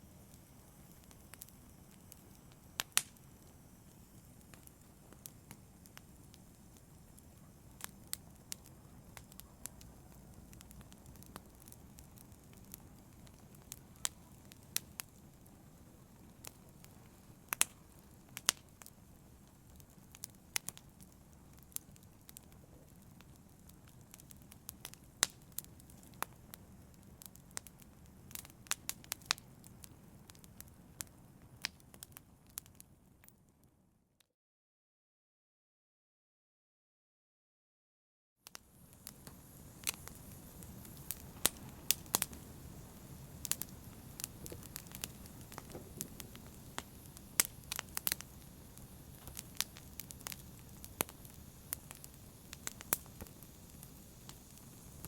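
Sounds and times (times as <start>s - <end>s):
wood fire crackling: 0.0s - 33.3s, 38.5s - 55.0s.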